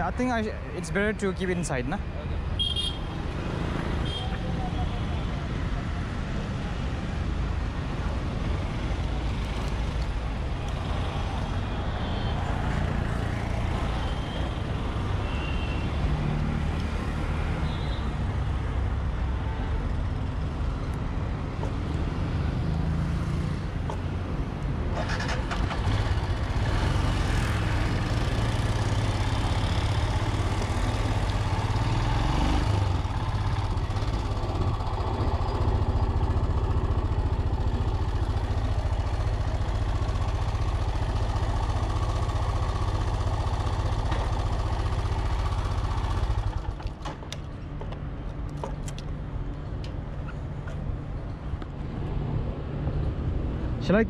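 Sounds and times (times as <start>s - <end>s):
street traffic: 0.0s - 54.0s.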